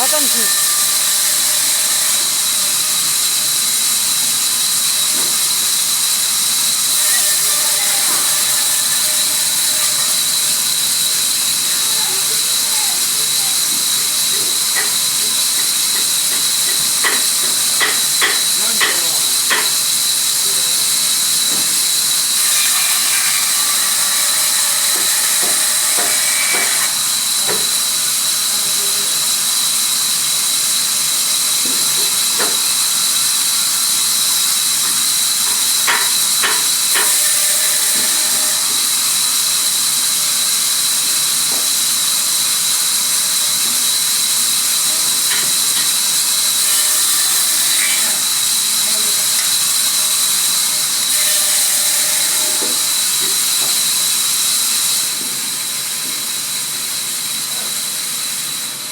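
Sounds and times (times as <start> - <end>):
sawmill machinery hiss and whine: 0.0 - 58.9.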